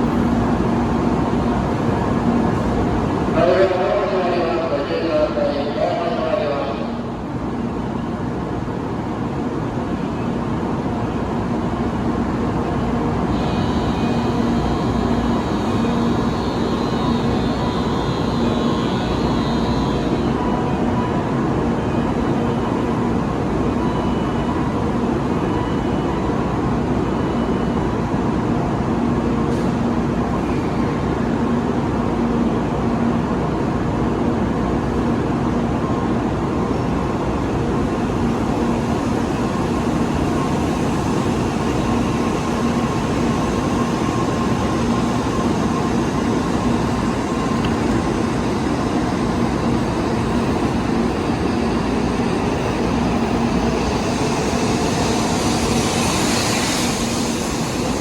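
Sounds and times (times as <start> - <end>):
train humming: 0.0 - 58.0.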